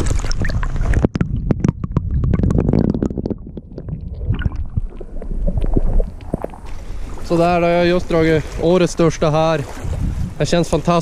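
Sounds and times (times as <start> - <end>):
muffled underwater gurgling: 0.0 - 9.2
rush of wind and water: 0.0 - 11.0.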